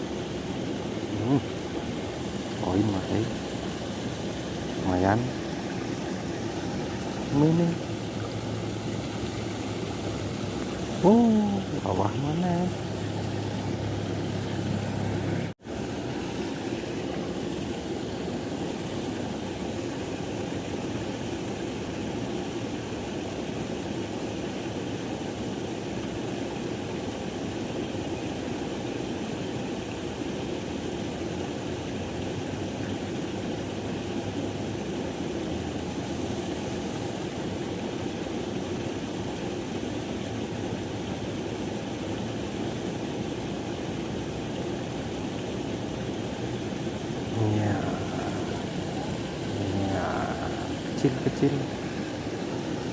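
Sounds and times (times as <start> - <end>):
river water rushing: 0.0 - 25.1, 30.0 - 52.9.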